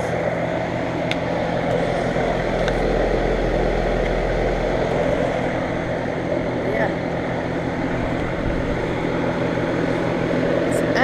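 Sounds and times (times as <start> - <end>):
air conditioner compressor hum: 0.0 - 11.0
condenser fan rushing: 0.0 - 11.0
deep low hum: 0.0 - 11.0.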